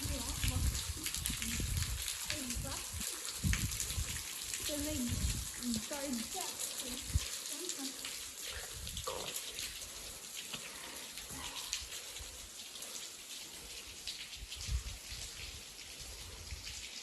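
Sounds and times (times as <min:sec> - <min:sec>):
water trickling and dripping: 0:00.0 - 0:17.0.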